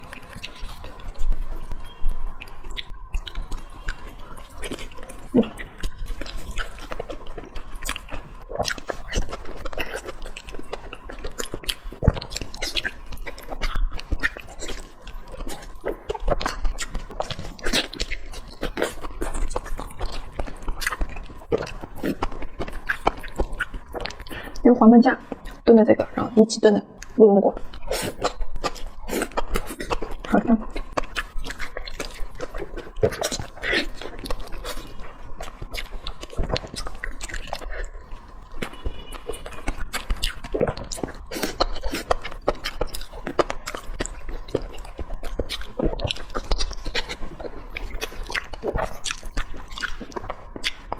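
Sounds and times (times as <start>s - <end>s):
wet chewing mouth sounds: 0.0s - 50.9s.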